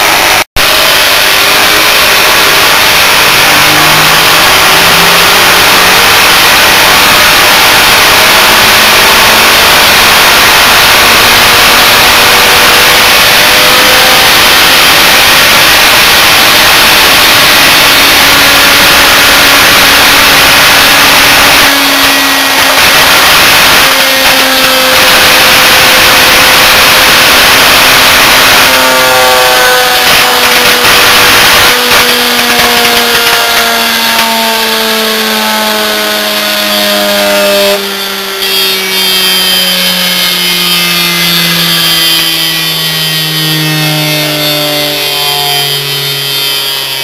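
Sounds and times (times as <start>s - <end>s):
electric motor whining and crackling: 0.0s - 47.0s.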